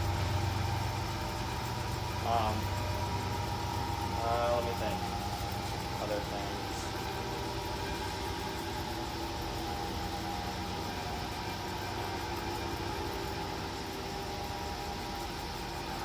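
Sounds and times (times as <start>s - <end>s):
bench grinder motor humming: 0.0s - 16.0s.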